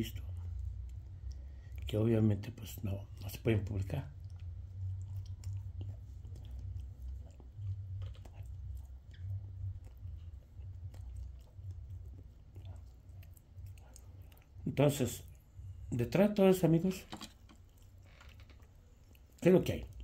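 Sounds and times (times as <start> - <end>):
person chewing bread: 0.0 - 15.9, 16.9 - 20.0.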